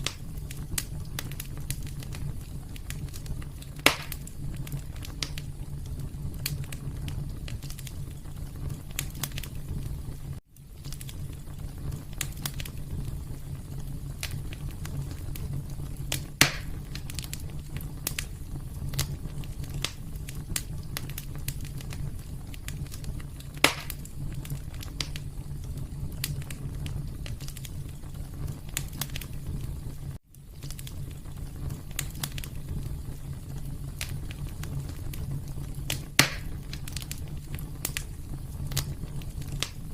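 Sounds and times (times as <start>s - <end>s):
fireplace fire crackling: 0.0s - 39.9s
sharp fire pops: 0.0s - 39.9s.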